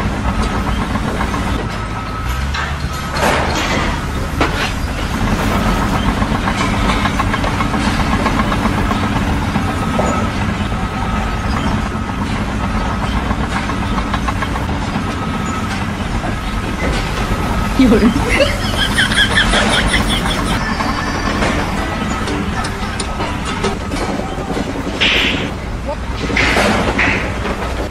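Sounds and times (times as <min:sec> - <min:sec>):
heavy engine rumbling: 0:00.0 - 0:27.9.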